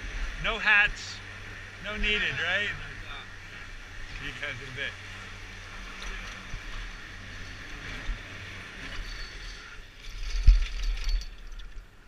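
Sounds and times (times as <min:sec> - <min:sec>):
chairlift mechanical rumble: 0:00.0 - 0:12.0.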